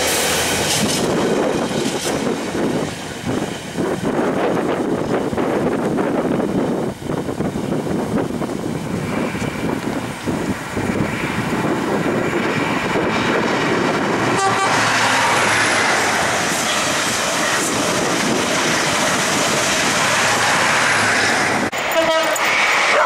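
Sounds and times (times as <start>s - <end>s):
high-speed train rushing past: 0.0s - 23.0s.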